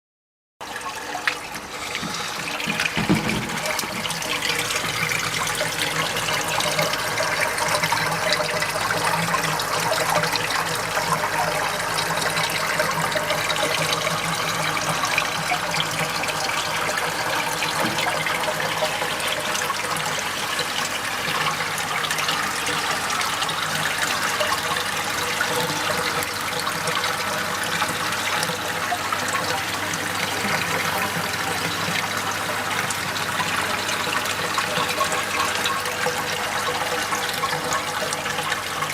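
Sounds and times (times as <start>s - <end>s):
water running and splashing: 0.6s - 38.9s.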